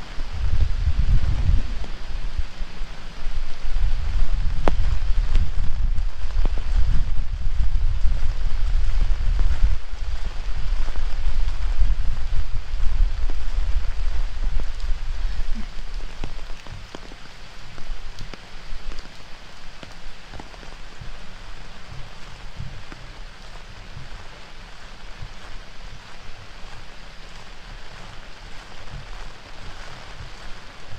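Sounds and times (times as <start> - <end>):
heavy rain: 0.0 - 30.9
raindrop ticks: 0.0 - 30.9
wind buffeting microphone: 0.0 - 30.9.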